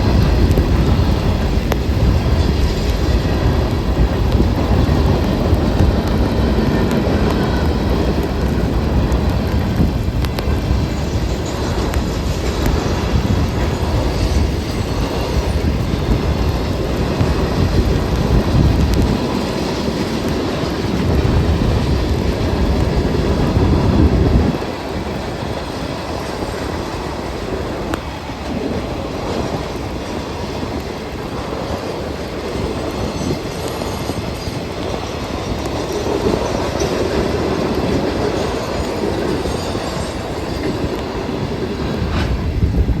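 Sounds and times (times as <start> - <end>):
heavy low train rumble: 0.0 - 43.0
train wheels clicking on rail joints: 0.0 - 43.0.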